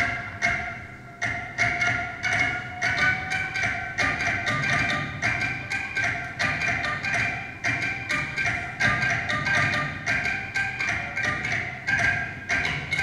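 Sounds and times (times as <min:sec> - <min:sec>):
percussion tube struck notes ringing: 0:00.0 - 0:13.0.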